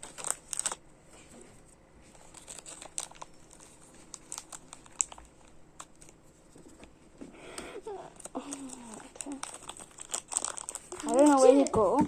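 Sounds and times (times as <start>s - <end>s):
light crinkling: 0.0s - 12.0s.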